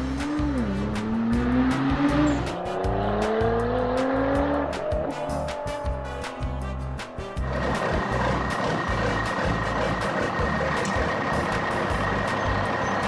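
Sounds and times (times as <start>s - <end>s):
car engine accelerating: 0.0s - 13.0s
music with steady beat: 0.0s - 13.0s.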